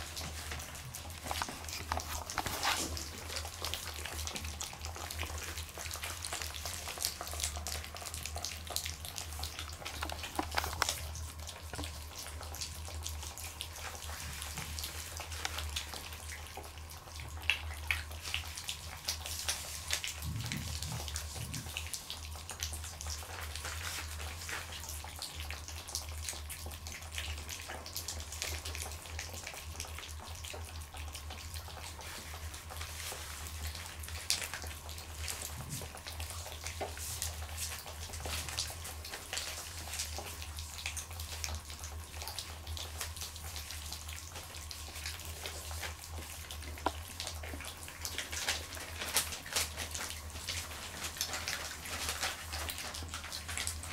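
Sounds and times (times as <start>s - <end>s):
puppies eating wet food: 0.0s - 53.9s.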